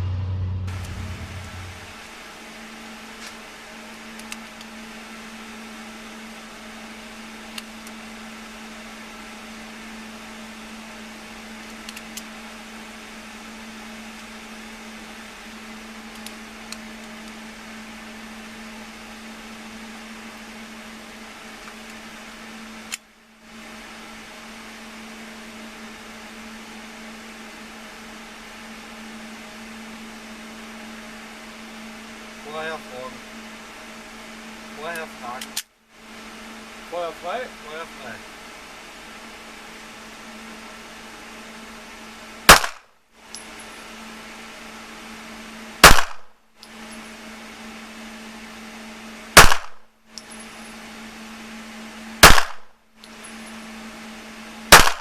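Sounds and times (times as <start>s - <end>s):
mechanical hum with hiss: 0.0s - 55.0s.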